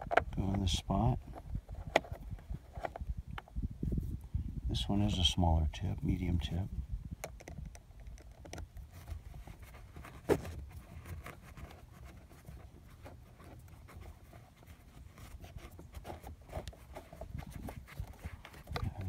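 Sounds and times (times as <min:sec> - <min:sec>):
handling noise: 0:00.0 - 0:03.6, 0:07.2 - 0:19.0.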